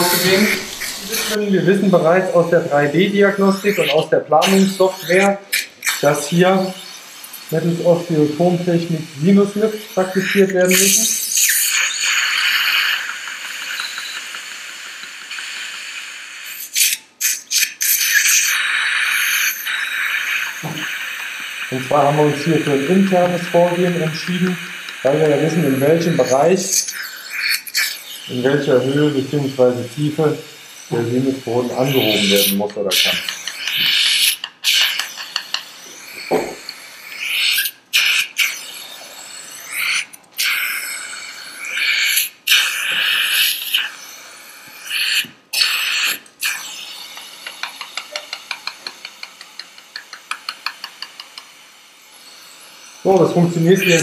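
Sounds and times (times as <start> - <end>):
dental suction hissing: 0.0 - 54.0.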